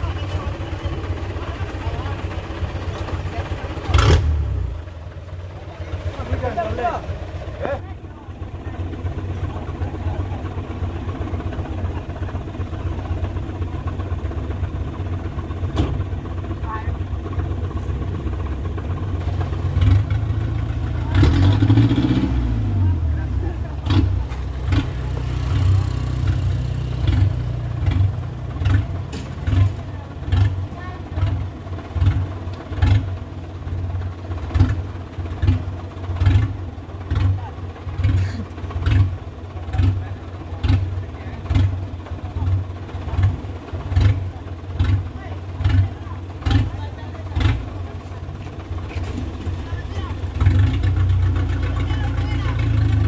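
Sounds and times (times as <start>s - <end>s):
truck engine rumbling: 0.0s - 53.0s.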